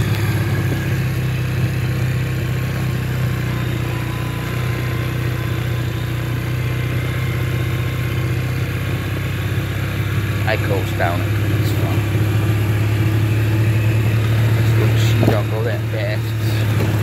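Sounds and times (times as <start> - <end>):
atv engine running steadily: 0.0 - 17.0.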